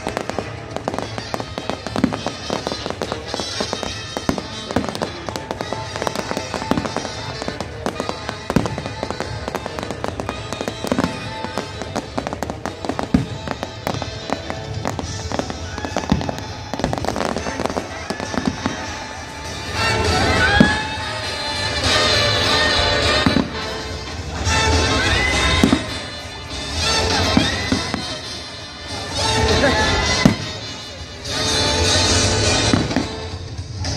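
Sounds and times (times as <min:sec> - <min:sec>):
fireworks bangs and crackles: 0:00.0 - 0:33.9
music playing: 0:00.0 - 0:33.9.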